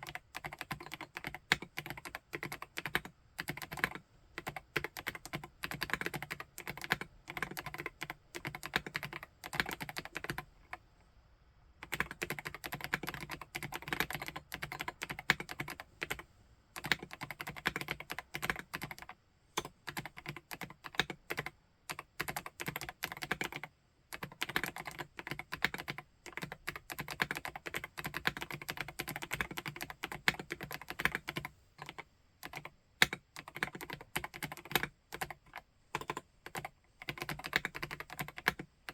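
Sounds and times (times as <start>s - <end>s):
typing on mechanical keyboard: 0.0s - 10.8s, 11.8s - 16.2s, 16.8s - 38.9s.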